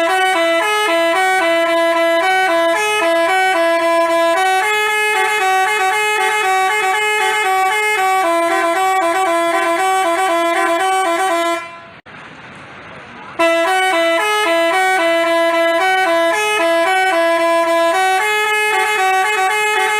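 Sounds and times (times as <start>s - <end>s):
multi-tone bus horn melody: 0.0s - 12.1s, 13.4s - 19.9s.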